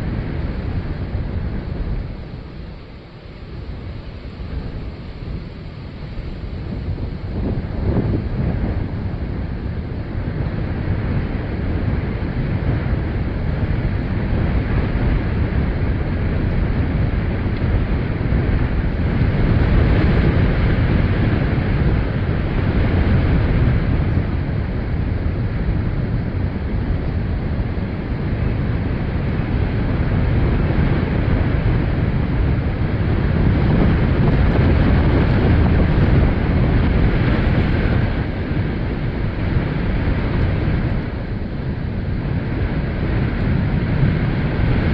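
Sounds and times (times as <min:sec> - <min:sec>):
storm wind buffeting microphone: 0:00.0 - 0:44.9.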